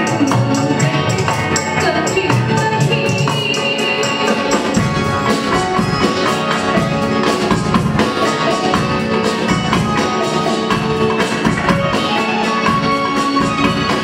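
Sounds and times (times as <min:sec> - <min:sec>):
drum kit and hand drums: 0:00.0 - 0:14.0
guitars: 0:00.0 - 0:14.0.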